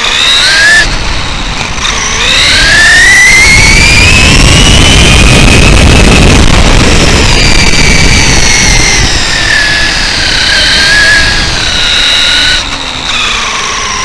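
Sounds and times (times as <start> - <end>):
electric motor whining: 0.0 - 14.0
tyres rumbling on asphalt: 0.0 - 14.0.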